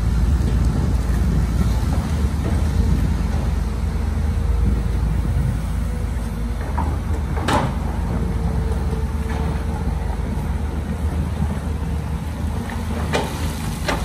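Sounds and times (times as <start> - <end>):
heavy machinery engine rumbling: 0.0 - 14.0.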